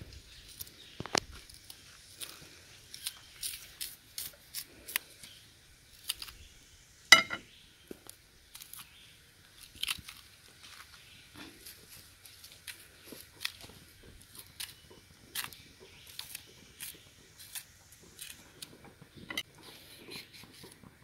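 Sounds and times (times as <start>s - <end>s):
knife peeling banana skins: 0.4s - 6.5s, 8.5s - 20.8s.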